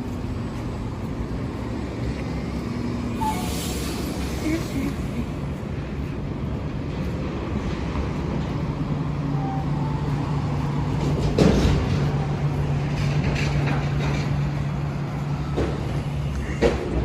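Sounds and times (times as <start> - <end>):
low vehicle engine hum: 0.0 - 17.0
traffic noise: 0.0 - 17.0
traffic rush: 0.0 - 17.0.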